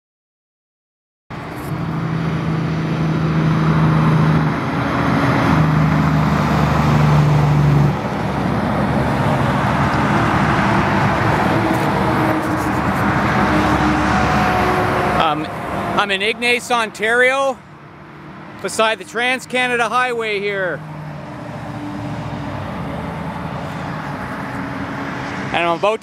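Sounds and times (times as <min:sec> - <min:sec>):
highway traffic: 0:01.3 - 0:26.0
truck passing close by: 0:01.3 - 0:26.0.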